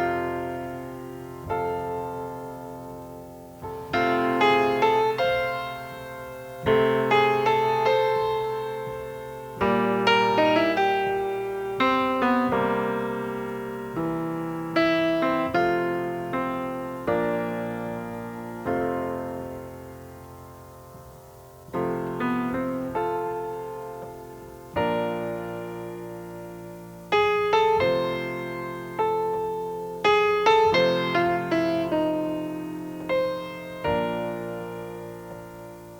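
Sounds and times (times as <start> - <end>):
solo piano slow chords: 0.0 - 35.9.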